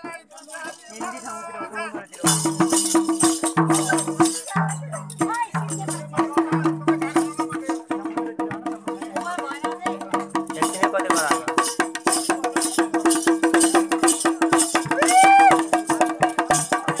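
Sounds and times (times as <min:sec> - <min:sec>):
hand drum beating fast rhythm: 0:00.7 - 0:17.0.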